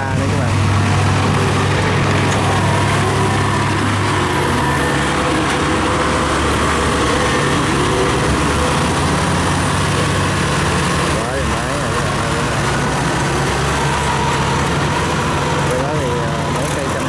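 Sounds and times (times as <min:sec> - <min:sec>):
combine harvester droning: 0:00.0 - 0:17.0.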